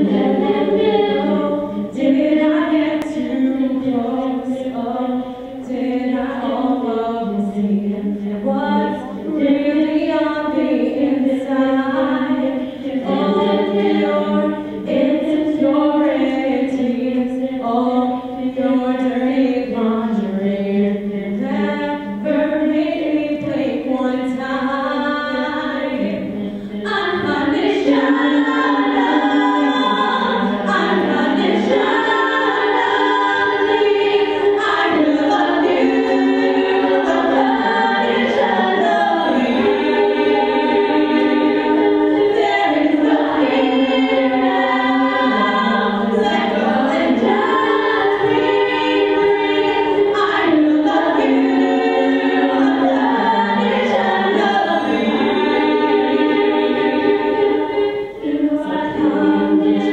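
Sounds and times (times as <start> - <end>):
backing singers holding chords: 0.0 - 59.9.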